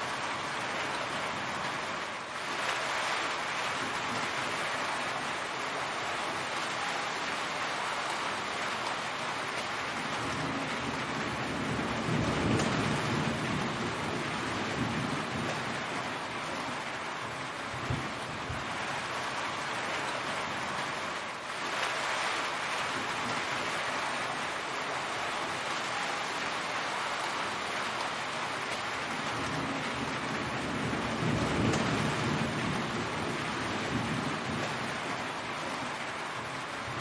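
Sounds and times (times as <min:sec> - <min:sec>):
heavy rain falling: 0:00.0 - 0:37.0
water dripping off a roof: 0:00.0 - 0:37.0.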